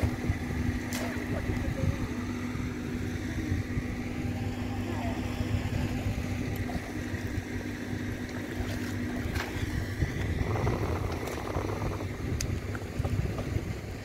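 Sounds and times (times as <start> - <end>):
distant boat engine drone: 0.0 - 14.0.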